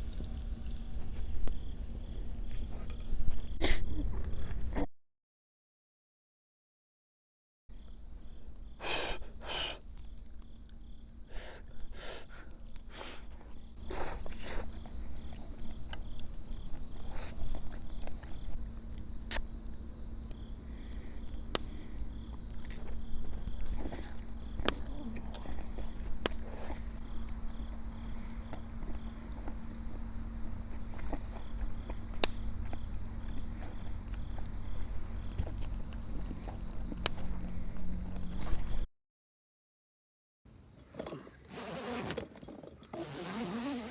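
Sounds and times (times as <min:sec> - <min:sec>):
crickets trilling: 0:00.0 - 0:04.8, 0:07.7 - 0:38.9, 0:41.5 - 0:42.2, 0:42.9 - 0:43.9.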